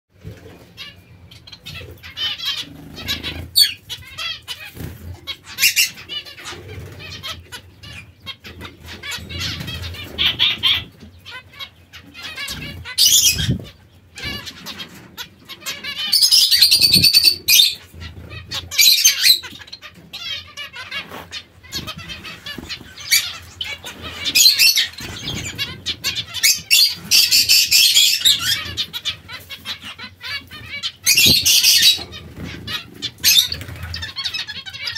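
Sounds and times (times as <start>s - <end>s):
finches chirping: 0.8s - 34.9s.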